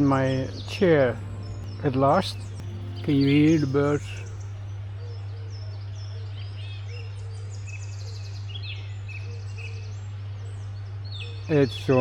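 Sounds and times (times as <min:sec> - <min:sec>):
birds singing and chirping: 0:00.0 - 0:12.0
steady low hum: 0:00.0 - 0:12.0.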